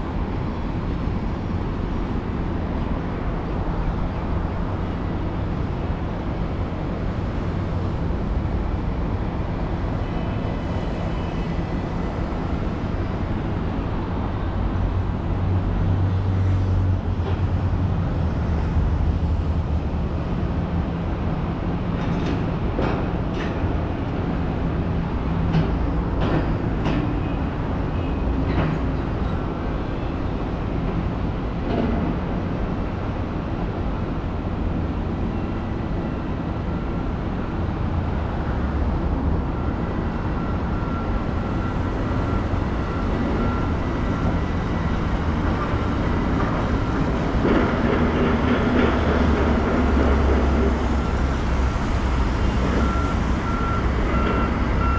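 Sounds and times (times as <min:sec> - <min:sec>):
low rumble of motor vehicles: 0:00.0 - 0:54.9.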